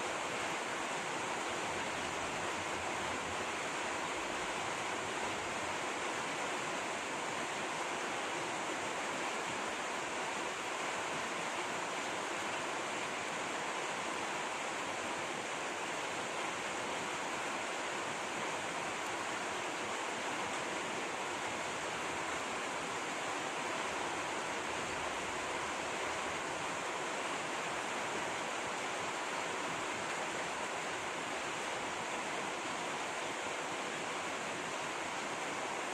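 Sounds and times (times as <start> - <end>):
flowing water rushing: 0.0 - 35.9.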